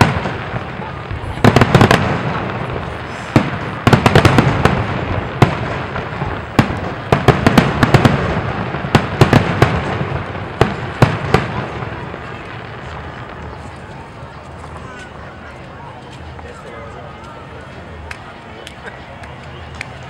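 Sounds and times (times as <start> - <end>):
rolling rumble and crackle: 0.0 - 20.0.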